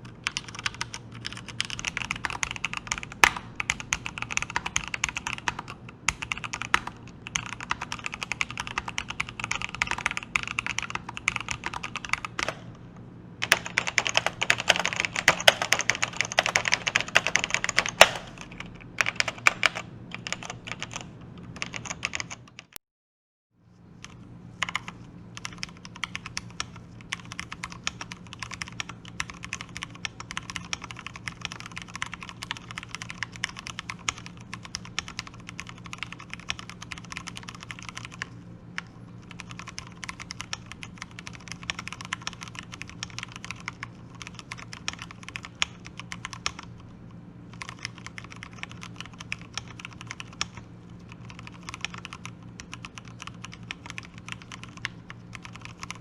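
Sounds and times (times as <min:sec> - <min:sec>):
fast mechanical keyboard typing: 0:00.0 - 0:12.7, 0:13.4 - 0:22.8, 0:24.0 - 0:46.9, 0:47.5 - 0:56.0.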